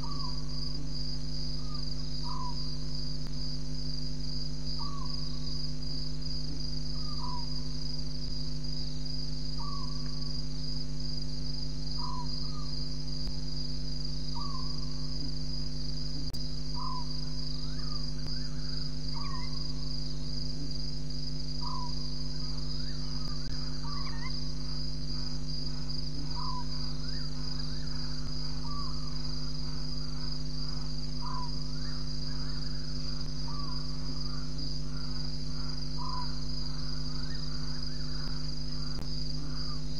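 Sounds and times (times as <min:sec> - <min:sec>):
constant low hum: 0:00.0 - 0:39.9
crickets chirping: 0:00.0 - 0:39.9.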